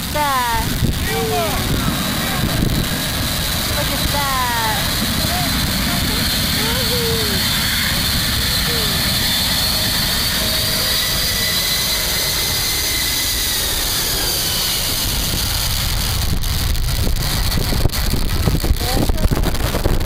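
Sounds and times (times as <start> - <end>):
wind buffeting microphone: 0.0 - 11.8, 14.1 - 20.0
jet engines whining: 0.0 - 19.9.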